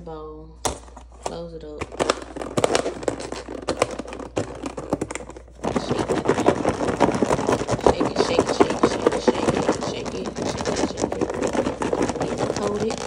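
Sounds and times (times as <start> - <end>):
pods rattling in shaken bowl: 1.0 - 13.0.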